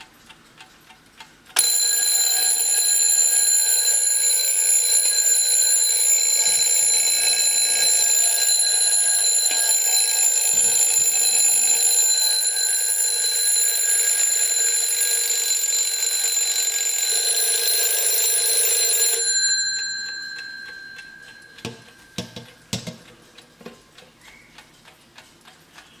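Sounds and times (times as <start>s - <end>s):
alarm clock bells ringing: 1.6s - 22.7s.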